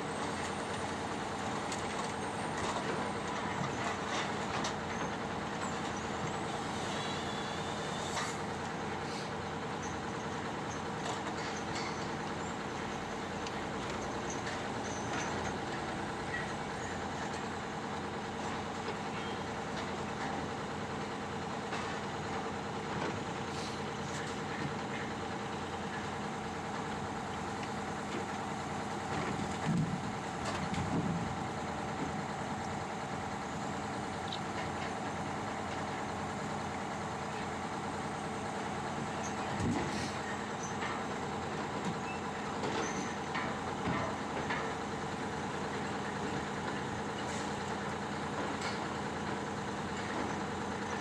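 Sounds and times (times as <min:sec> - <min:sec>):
heavy machine engine running: 0:00.0 - 0:51.0.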